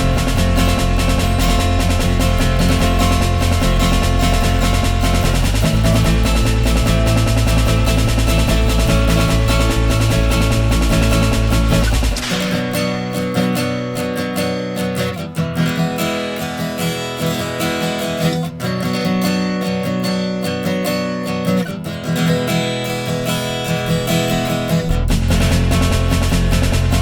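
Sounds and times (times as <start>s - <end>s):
strummed acoustic guitar music: 0.0s - 27.0s.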